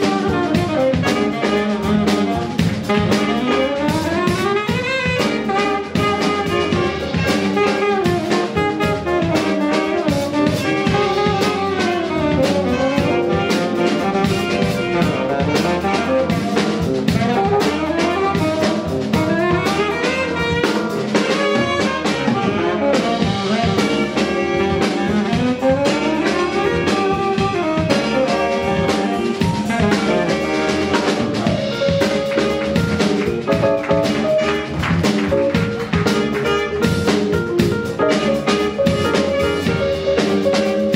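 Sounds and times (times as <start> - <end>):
drum kit steady beat: 0.0 - 40.9
electric bass guitar: 0.0 - 40.9
saxophones playing melody: 0.0 - 40.9.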